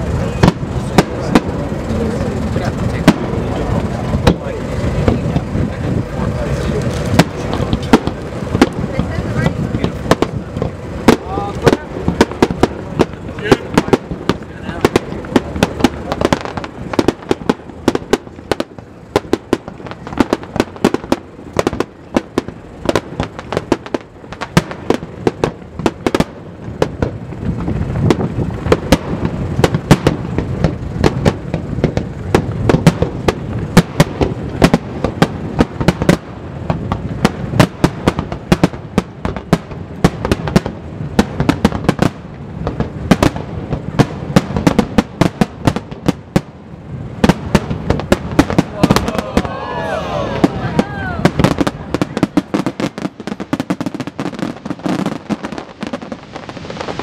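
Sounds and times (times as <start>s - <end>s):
continuous rumble: 0.0s - 57.0s
fireworks bangs and crackles: 0.0s - 57.0s.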